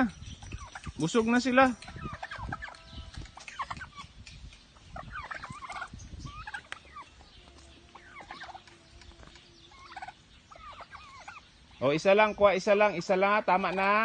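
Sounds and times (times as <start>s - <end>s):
turkeys calling: 0.0s - 14.0s.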